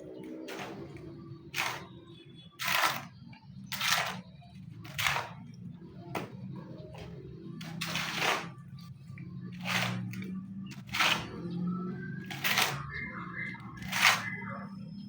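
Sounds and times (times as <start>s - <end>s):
rhythmic scraping strokes: 0.0s - 15.0s.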